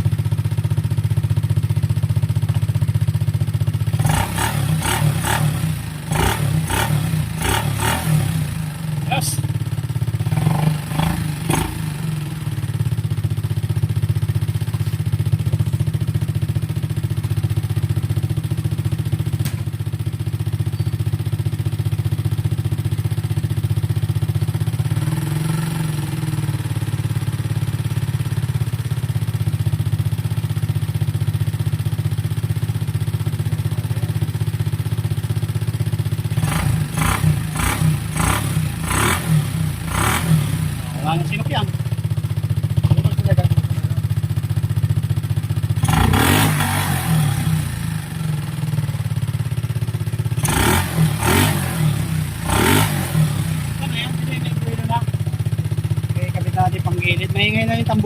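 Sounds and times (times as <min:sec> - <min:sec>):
scooter engine idling: 0:00.0 - 0:58.0.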